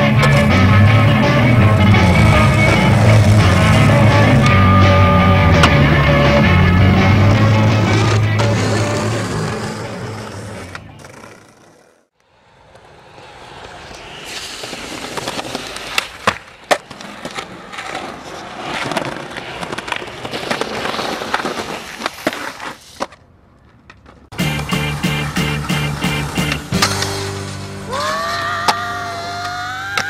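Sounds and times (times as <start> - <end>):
skateboard clacks: 0.0 - 12.0, 12.6 - 27.2
skateboard wheels rolling on concrete: 0.0 - 30.0.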